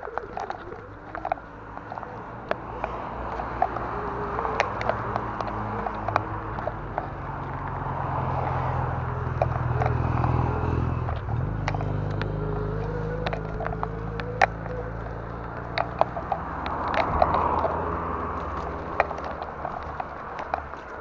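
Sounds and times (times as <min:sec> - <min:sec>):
bike parts rattling: 0:00.0 - 0:21.0.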